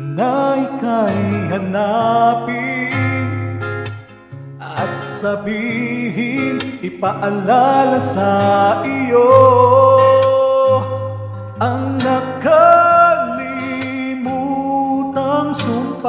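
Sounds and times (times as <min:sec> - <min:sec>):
man singing a ballad: 0:00.0 - 0:03.8, 0:04.6 - 0:16.0
karaoke backing track: 0:00.0 - 0:16.0.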